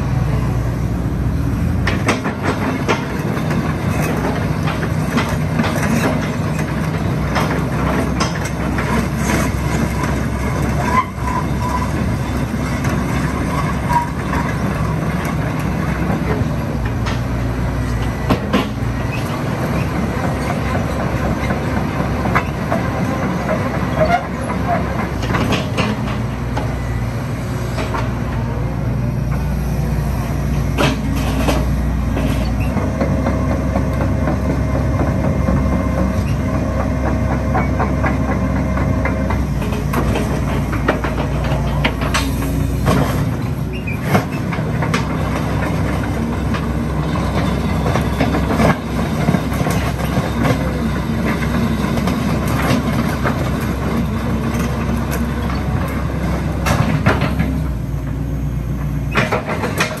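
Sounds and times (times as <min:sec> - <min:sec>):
excavator diesel engine running: 0:00.0 - 1:00.0
track chain clanks and knocks: 0:01.8 - 0:27.0, 0:30.6 - 1:00.0.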